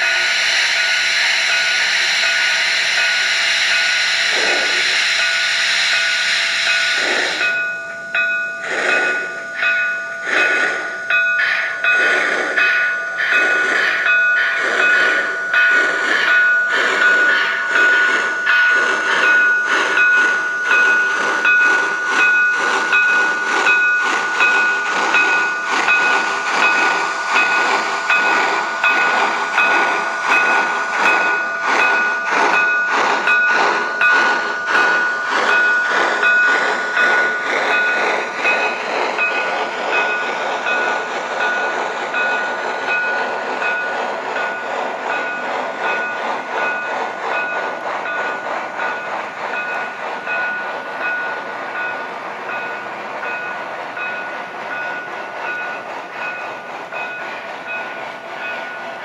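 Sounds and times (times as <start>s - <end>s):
model steam locomotive chuffing: 0.0s - 59.0s.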